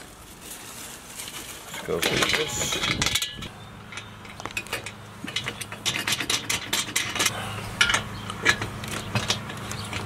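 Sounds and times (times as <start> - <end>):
metal parts clicking and clinking: 1.2 - 10.0.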